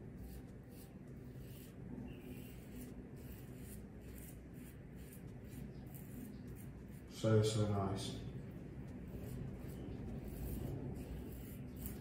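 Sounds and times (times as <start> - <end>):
razor scraping stubble: 0.0 - 7.7, 8.5 - 12.0.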